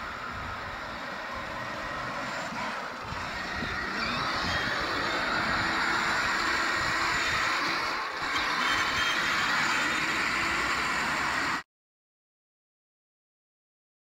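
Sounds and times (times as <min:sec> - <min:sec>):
vehicle approaching: 0:00.0 - 0:11.6.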